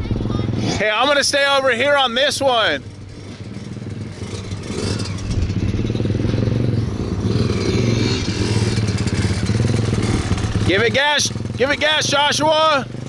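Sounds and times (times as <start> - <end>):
dirt bike engines running: 0.0 - 13.0.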